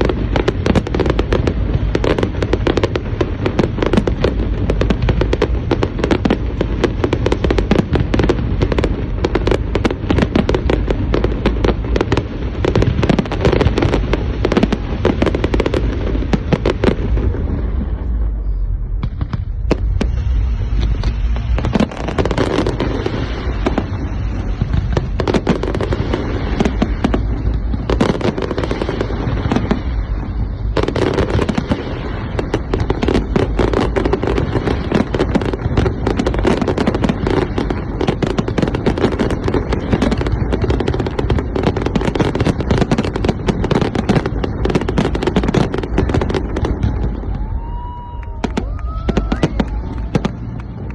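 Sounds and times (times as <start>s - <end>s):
fireworks crackling bangs and pops: 0.0s - 50.9s
low rumble of bursts: 0.0s - 50.9s.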